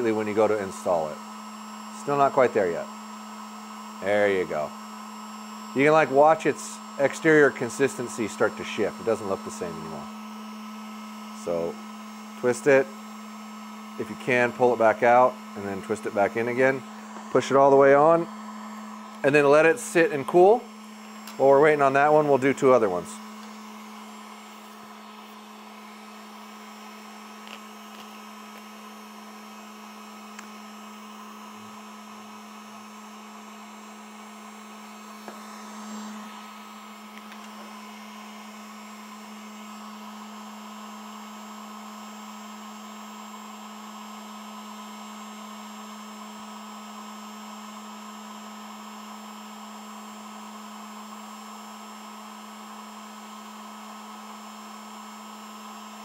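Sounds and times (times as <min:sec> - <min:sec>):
heat gun fan whirring: 0:00.0 - 0:56.0.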